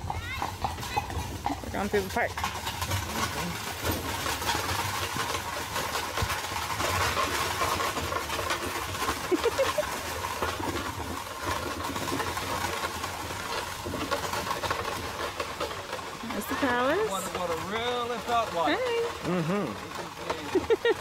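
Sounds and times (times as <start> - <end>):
carriage wheels rolling: 0.0 - 21.0
horses clip-clopping on dirt: 0.0 - 21.0.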